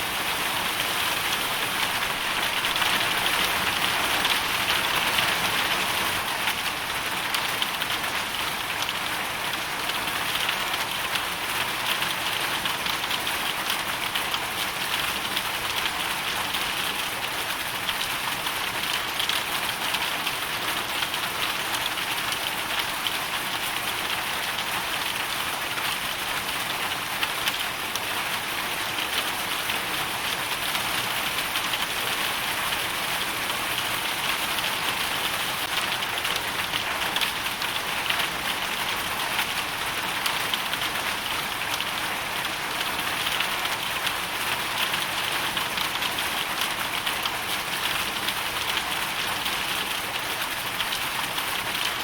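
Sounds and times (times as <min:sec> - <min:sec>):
hail and rain on hard surface: 0:00.0 - 0:52.0.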